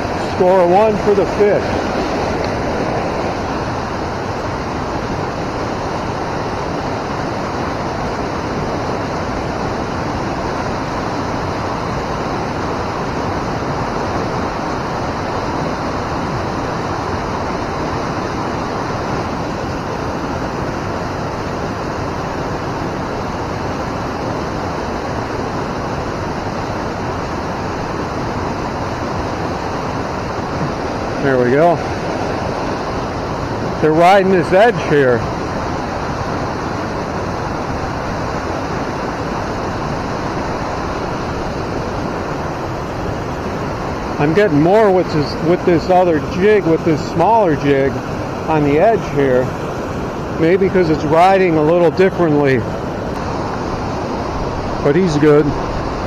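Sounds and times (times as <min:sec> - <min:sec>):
water rushing over spillway: 0:00.0 - 0:56.0.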